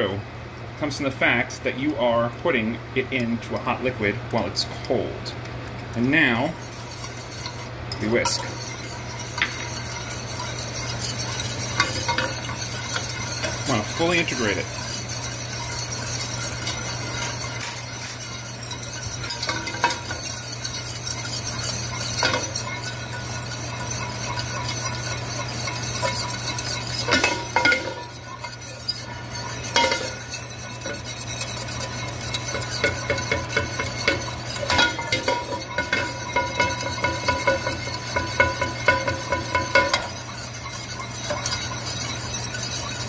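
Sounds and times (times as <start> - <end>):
whisk clinking against a pan: 5.7 - 43.0
whisk knocking pan side: 6.1 - 43.0.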